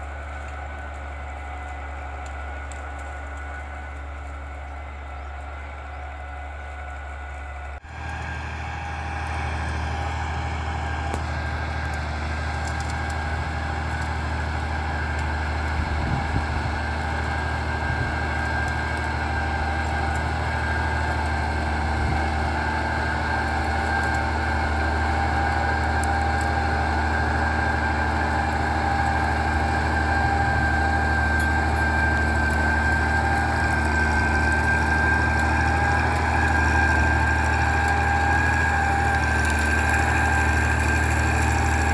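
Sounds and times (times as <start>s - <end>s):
tractor engine droning with whine: 0.0s - 41.9s.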